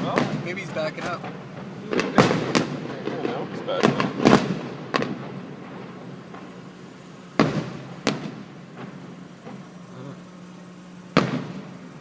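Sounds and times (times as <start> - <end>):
fireworks booming with echo: 0.0 - 12.0.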